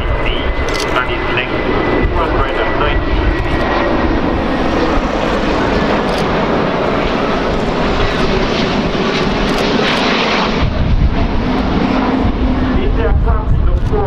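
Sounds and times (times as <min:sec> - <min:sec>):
deep jet rumble: 0:00.0 - 0:14.0
jet engines rushing: 0:00.0 - 0:14.0.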